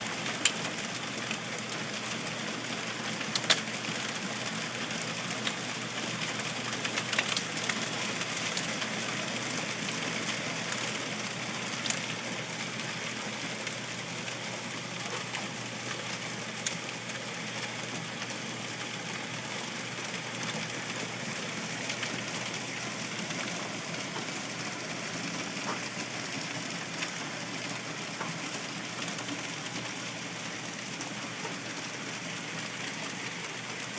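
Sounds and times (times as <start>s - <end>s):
heavy rain and hail: 0.0s - 33.9s.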